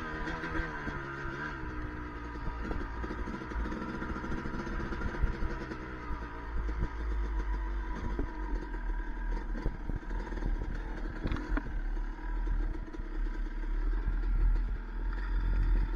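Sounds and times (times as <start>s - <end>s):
dirt bike engine running: 0.0s - 15.9s.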